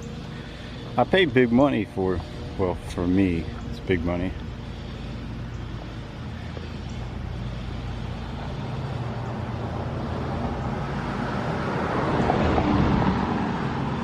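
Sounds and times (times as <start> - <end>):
road noise: 0.0 - 14.0
vehicle engine hum: 0.0 - 14.0.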